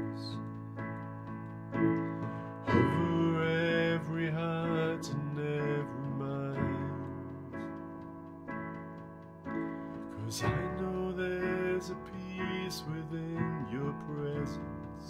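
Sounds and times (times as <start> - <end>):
keyboard playing sustained chords: 0.0 - 15.0.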